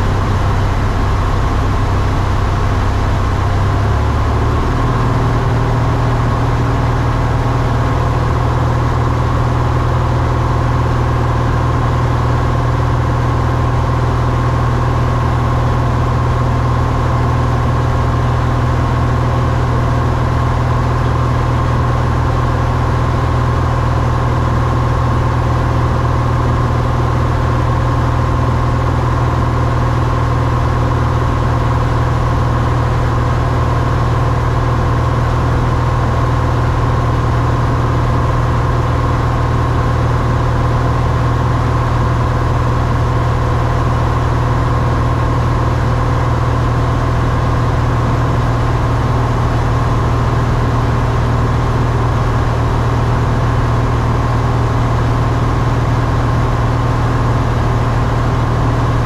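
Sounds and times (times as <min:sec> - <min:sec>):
plane engine and propeller drone: 0:00.0 - 0:59.0.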